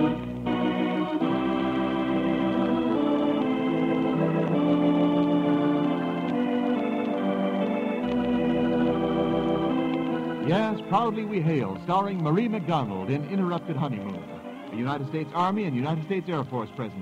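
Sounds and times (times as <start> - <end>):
muffled organ chords: 0.0 - 17.0.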